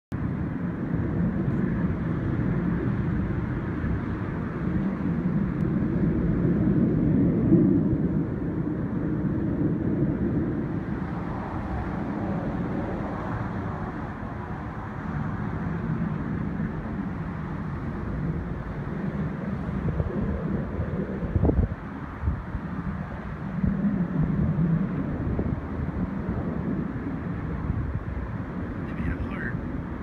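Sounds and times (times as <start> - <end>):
distant fighter jets rumbling: 0.1 - 30.0.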